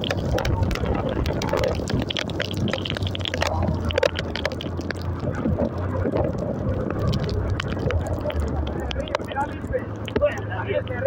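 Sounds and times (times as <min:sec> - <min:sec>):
sharp ticks: 0:00.0 - 0:10.5
water splashing: 0:00.0 - 0:10.6
rain hissing: 0:00.0 - 0:10.7.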